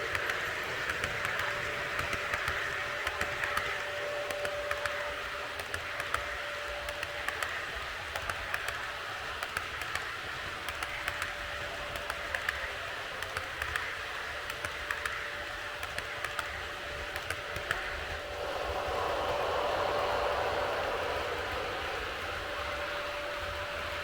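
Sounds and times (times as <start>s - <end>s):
faint steady hum: 0.0s - 24.0s
model train rolling hiss: 0.0s - 24.0s
wheels clicking over rail joints: 0.0s - 24.0s.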